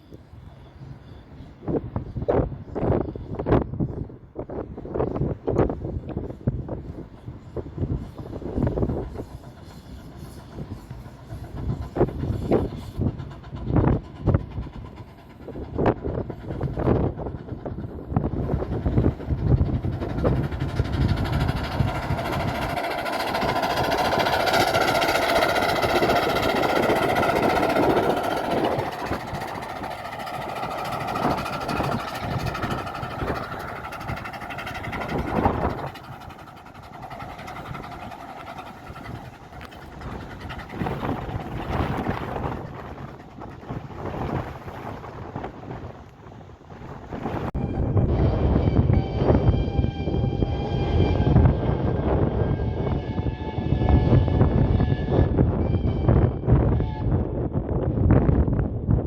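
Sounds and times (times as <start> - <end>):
train rushing along track: 0.0 - 59.0
steam locomotive beats: 4.6 - 46.4, 47.2 - 58.2.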